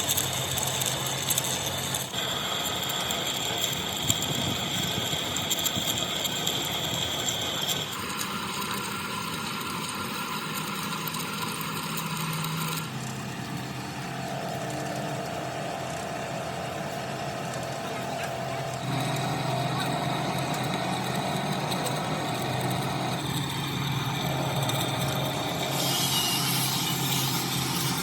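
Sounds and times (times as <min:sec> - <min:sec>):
workshop machinery whirring: 0:00.0 - 0:28.0.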